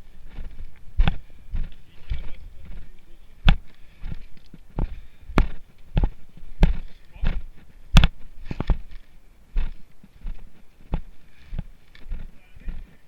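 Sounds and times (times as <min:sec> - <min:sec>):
footsteps thudding: 0:00.0 - 0:13.0.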